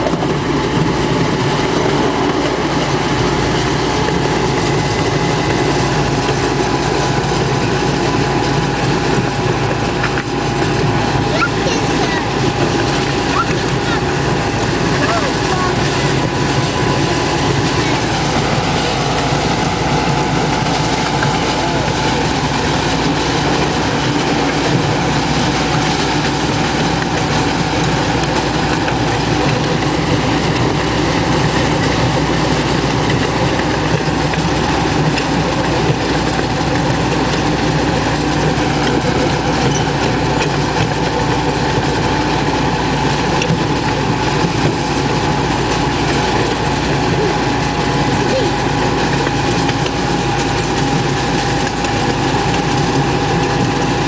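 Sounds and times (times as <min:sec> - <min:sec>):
rumble of train wheels: 0:00.0 - 0:54.0
steady engine hum: 0:00.0 - 0:54.0.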